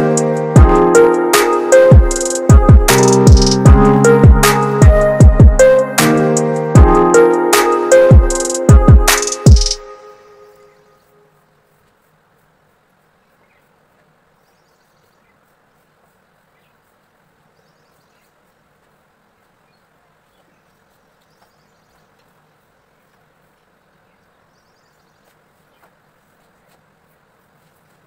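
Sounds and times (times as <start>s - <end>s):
faint room hiss: 0.0s - 28.0s.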